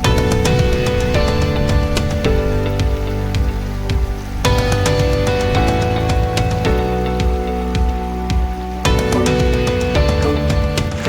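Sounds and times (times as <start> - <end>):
melodic music over a steady beat: 0.0 - 11.0.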